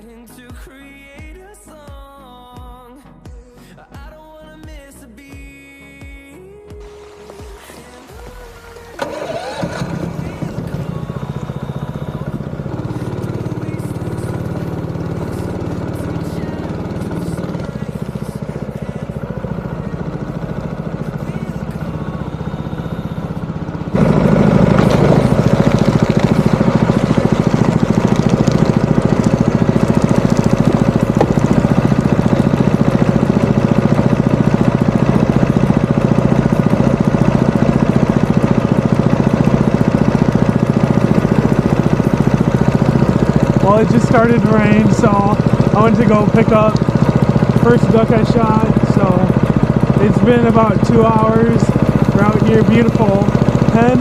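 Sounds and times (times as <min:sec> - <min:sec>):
small boat motor running: 0:06.2 - 0:54.0.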